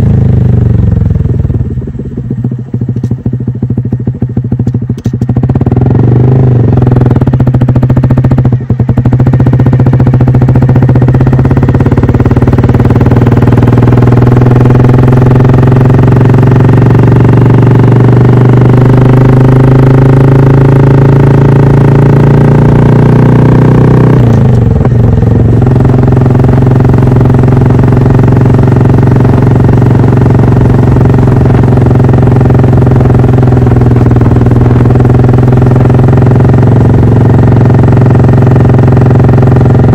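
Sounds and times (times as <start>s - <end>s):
motorcycle exhaust while riding: 0.0s - 39.9s.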